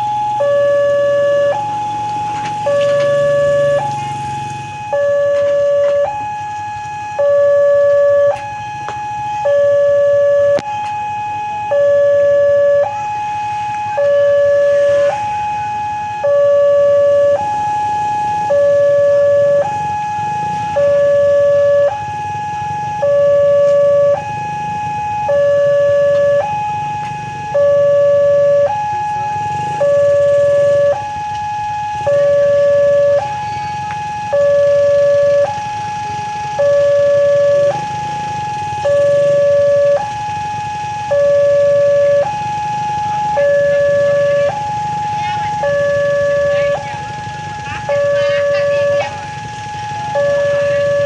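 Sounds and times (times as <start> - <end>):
electronic two-tone warning siren: 0.0 - 51.0.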